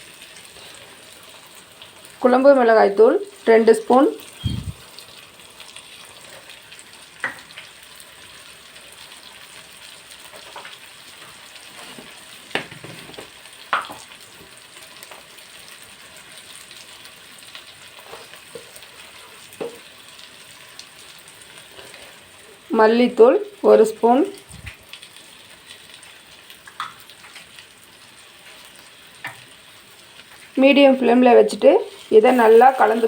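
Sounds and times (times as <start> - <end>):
sauce sizzling in oil: 0.0 - 33.0.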